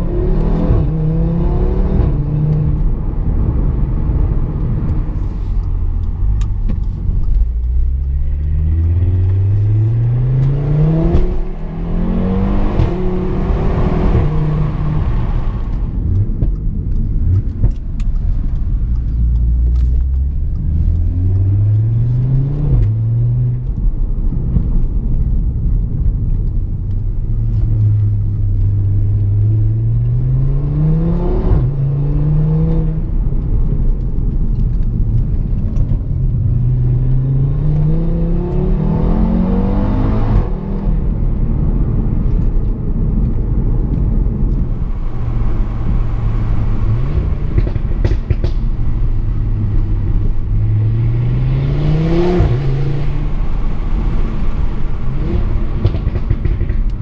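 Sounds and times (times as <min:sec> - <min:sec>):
car engine accelerating hard: 0:00.0 - 0:24.8, 0:27.5 - 0:57.0.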